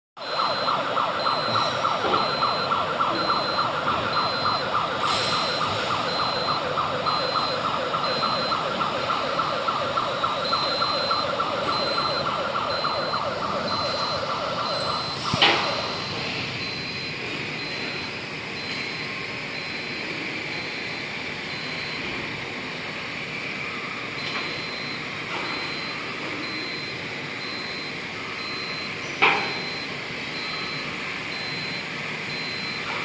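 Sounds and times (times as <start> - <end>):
electronic warning alarm warble: 0.2 - 33.0.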